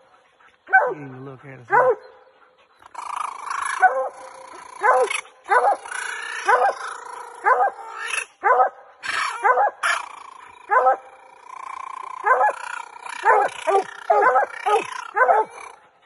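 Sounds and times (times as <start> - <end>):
hounds barking: 0.0 - 2.6, 3.6 - 11.2, 12.1 - 16.0.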